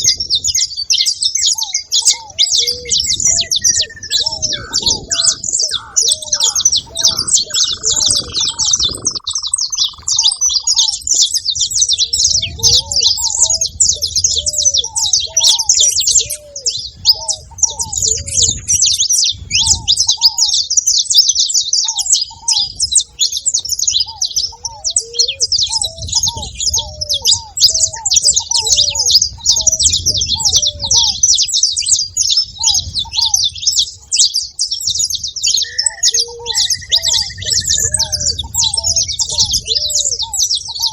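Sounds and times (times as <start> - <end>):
doves cooing: 0.0 - 20.8, 21.8 - 40.9
finches chirping and singing: 0.0 - 40.9.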